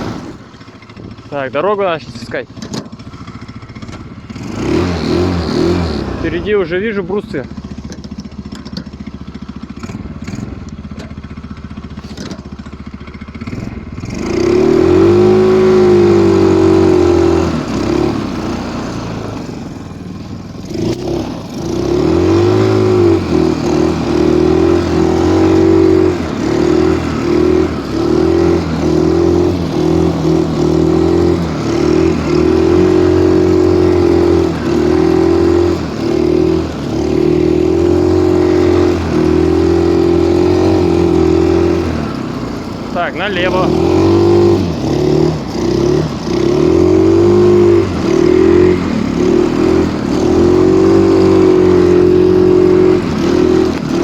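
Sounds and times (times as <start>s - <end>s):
snowmobile engine revving: 0.0s - 8.5s, 9.4s - 54.0s.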